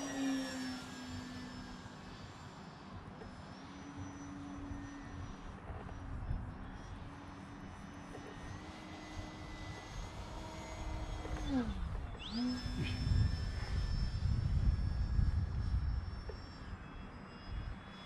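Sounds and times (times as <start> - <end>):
model plane motor whining: 0.0 - 18.0.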